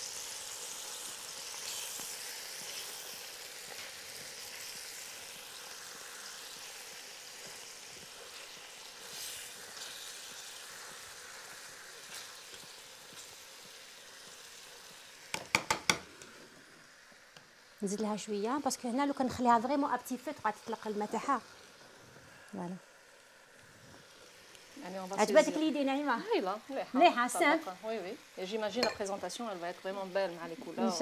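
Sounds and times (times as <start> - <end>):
meat frying in hot fat: 0.0 - 31.0.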